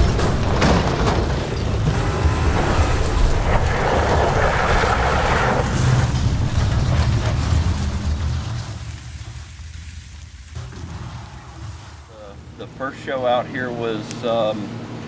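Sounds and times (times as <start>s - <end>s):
tyres churning loose dirt: 0.0s - 14.0s
car engines rumbling: 0.0s - 15.0s
hissing rush: 1.4s - 14.4s.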